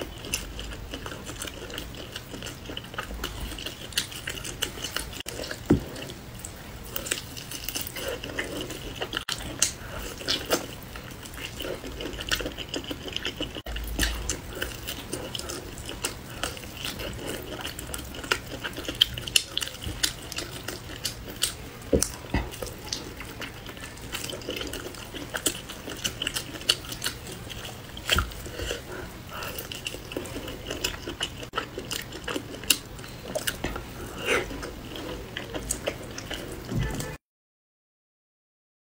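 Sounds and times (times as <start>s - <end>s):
wet chewing: 0.0s - 37.2s.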